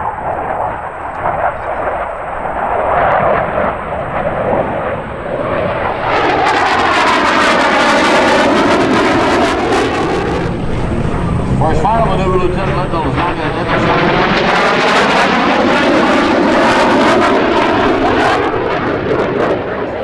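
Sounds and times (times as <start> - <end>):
fighter jet flying past: 0.0 - 20.0.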